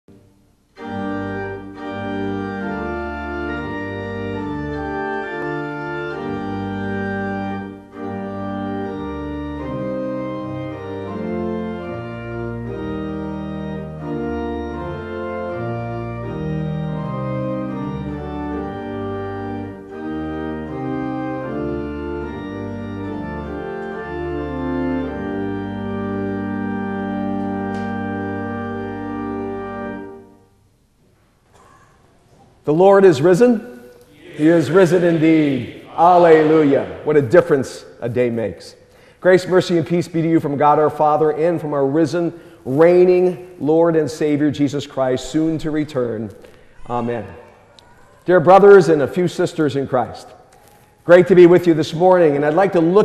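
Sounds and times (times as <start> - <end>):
pipe organ chords: 0.1 - 31.0, 32.6 - 46.9, 51.0 - 53.0.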